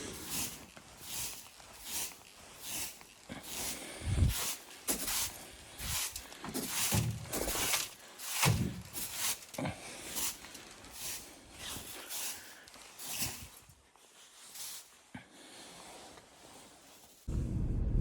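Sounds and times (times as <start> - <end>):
footsteps crunching in snow: 0.0 - 17.3.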